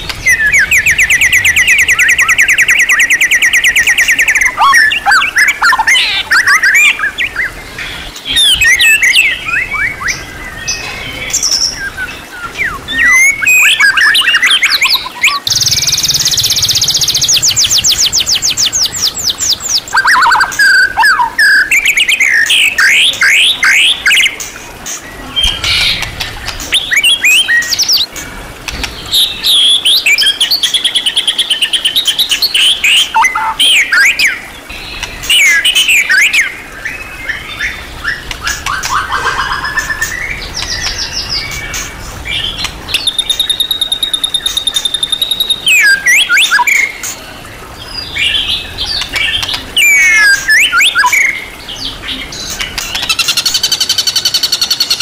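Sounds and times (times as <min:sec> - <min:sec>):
songbird singing whistles and trills: 0:00.0 - 0:24.5, 0:25.4 - 0:28.1, 0:29.1 - 0:47.2, 0:47.9 - 0:55.0.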